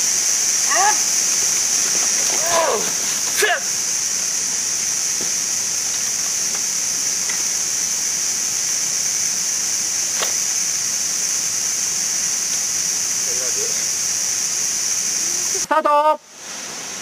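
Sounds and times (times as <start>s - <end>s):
high-pitched forest hiss: 0.0s - 17.0s.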